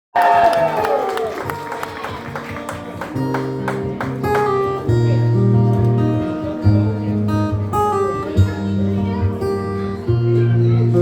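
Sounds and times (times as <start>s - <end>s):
acoustic guitar playing: 1.4s - 11.0s.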